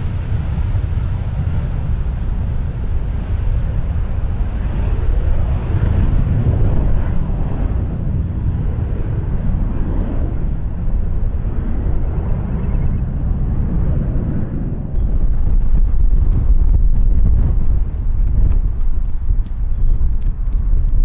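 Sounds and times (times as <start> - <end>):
jet airliner engines roaring: 0.0 - 21.0.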